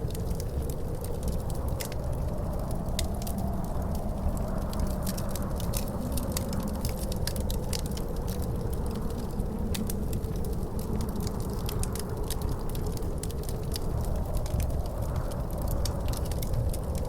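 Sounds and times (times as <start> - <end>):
low rumble of wind: 0.0 - 17.0
wood fire crackling: 0.0 - 17.0.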